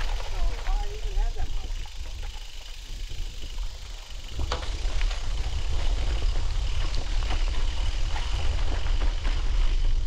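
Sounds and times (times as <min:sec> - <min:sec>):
bicycle tyres rolling: 0:00.0 - 0:10.0
wind rumbling on microphone: 0:00.0 - 0:10.0.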